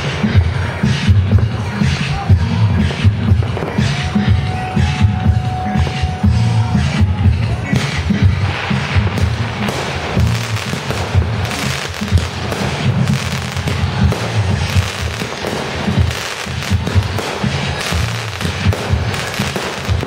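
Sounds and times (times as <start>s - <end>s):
fireworks crackling and popping: 0.0s - 20.0s
music with strong bass: 0.0s - 20.0s.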